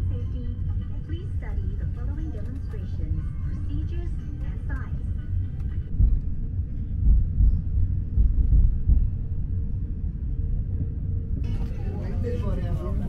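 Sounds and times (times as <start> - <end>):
airliner cabin rumble: 0.0 - 13.0
faint steady hum: 0.0 - 13.0.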